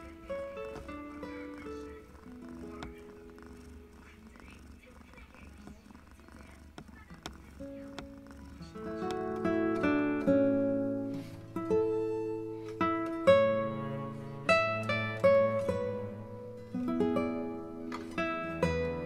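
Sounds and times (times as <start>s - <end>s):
plucked acoustic guitar melody: 0.0s - 4.8s, 5.4s - 19.0s.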